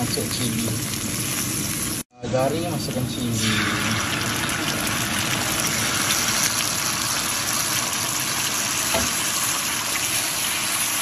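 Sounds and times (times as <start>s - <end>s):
paste sizzling in hot oil: 0.0s - 2.1s, 3.2s - 11.0s.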